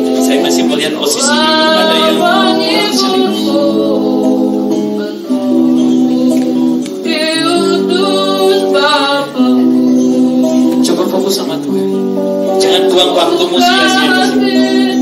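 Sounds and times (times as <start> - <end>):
sustained accompanying chords: 0.0 - 15.0
person singing into microphone: 0.2 - 10.6, 12.6 - 15.0.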